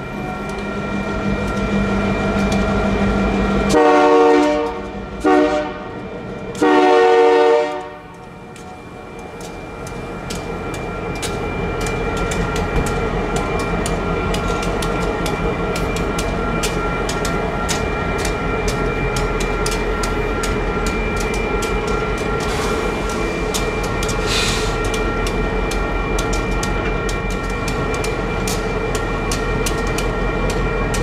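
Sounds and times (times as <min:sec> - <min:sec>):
diesel locomotive engine rumble: 0:00.0 - 0:31.0
wheels clicking on rail: 0:00.1 - 0:31.0.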